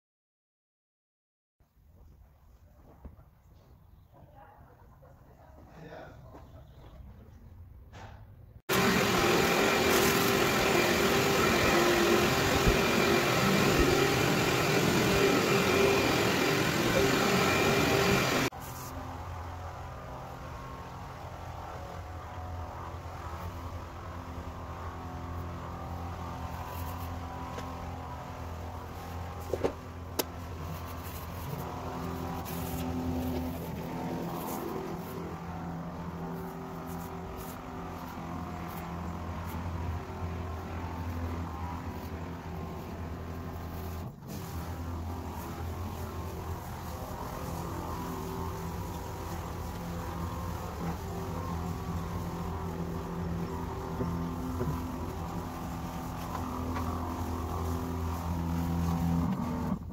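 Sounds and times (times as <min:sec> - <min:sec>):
loud machine noise: 0:08.7 - 0:59.9.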